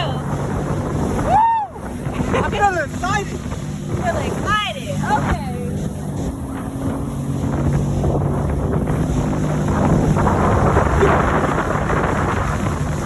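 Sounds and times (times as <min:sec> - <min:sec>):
jet ski engine humming: 0:00.0 - 0:13.0
water rushing: 0:00.0 - 0:13.0
wind noise on microphone: 0:00.0 - 0:13.0.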